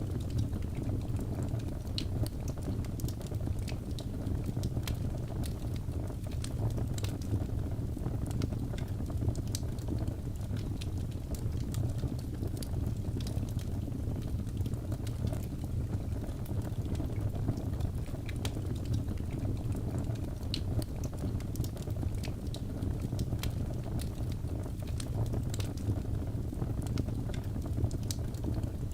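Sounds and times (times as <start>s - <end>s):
fire crackling and popping: 0.0s - 28.9s
fire rumbling: 0.0s - 28.9s.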